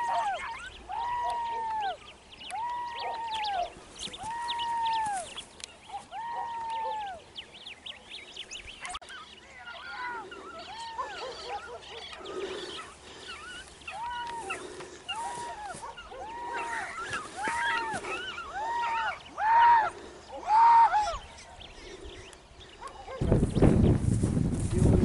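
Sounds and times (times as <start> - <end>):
hounds baying: 0.0 - 2.0, 2.6 - 7.3, 8.8 - 21.5, 22.6 - 23.3.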